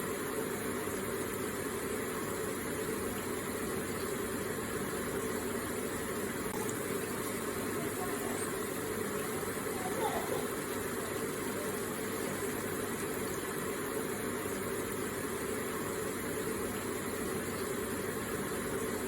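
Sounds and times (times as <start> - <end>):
water feature trickling and splashing: 0.0 - 19.0.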